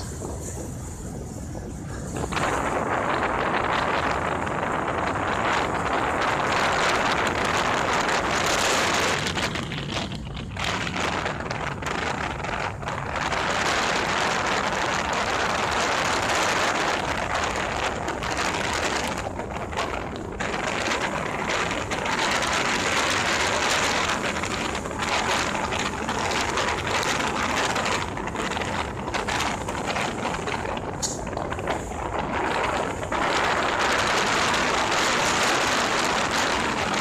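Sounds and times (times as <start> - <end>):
road and tyre noise: 0.0 - 37.0
wind rushing over microphone: 0.0 - 37.0.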